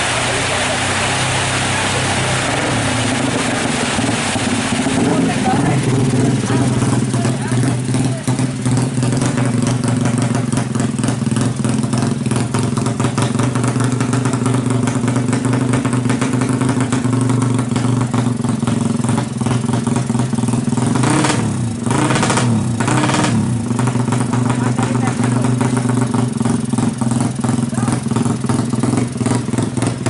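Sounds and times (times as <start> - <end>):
engine throttle blips: 0.0 - 30.0
motorcycle engine idling: 0.0 - 30.0.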